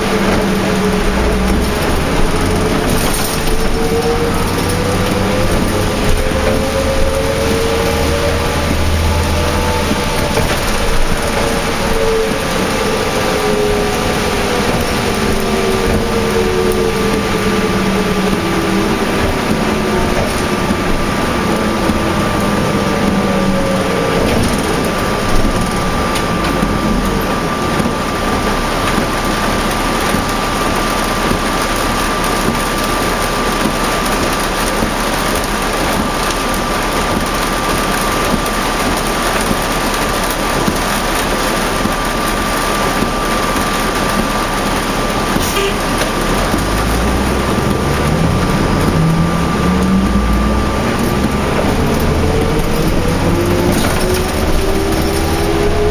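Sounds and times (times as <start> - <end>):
bus engine and driveline whine: 0.0 - 55.9
heavy rain: 0.0 - 55.9
road noise: 0.0 - 55.9.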